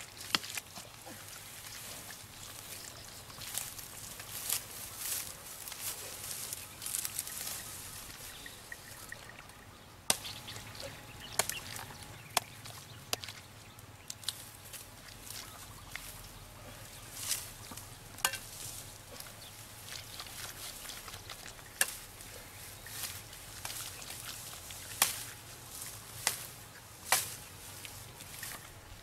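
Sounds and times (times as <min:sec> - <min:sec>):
faint outdoor background: 0:00.0 - 0:29.0.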